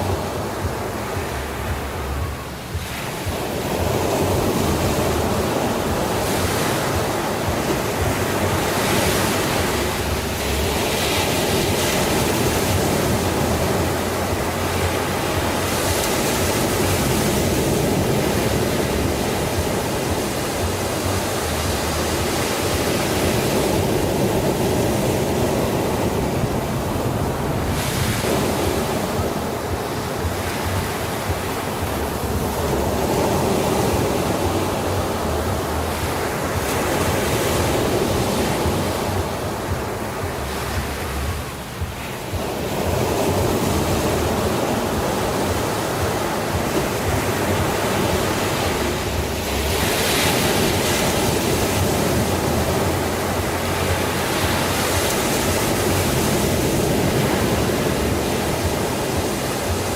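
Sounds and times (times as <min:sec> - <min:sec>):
sea surf washing onto shore: 0:00.0 - 0:59.9.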